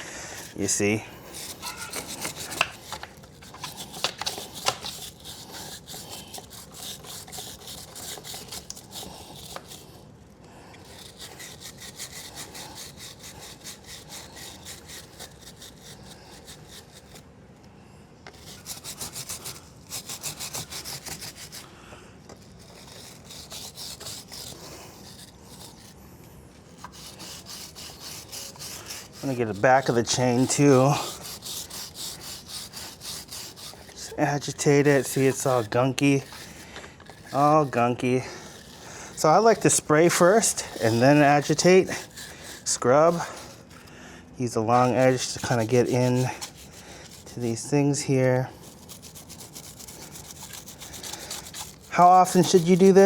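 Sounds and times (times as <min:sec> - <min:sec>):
bristle brush scrubbing a chain: 0:00.0 - 0:10.0, 0:10.8 - 0:17.2, 0:18.3 - 0:21.7, 0:22.4 - 0:26.0, 0:26.6 - 0:53.0.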